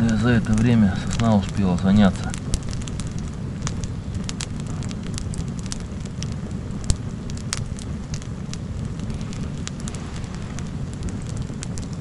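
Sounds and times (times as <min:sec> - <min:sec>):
campfire crackling and popping: 0:00.0 - 0:12.0
low rumble: 0:00.0 - 0:12.0.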